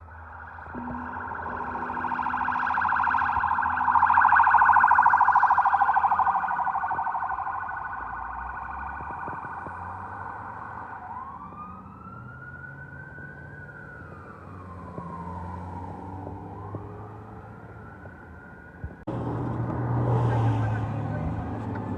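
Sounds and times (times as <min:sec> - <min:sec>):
fast-warbling electronic siren: 0:00.0 - 0:18.3
siren wailing up and down: 0:00.0 - 0:19.0.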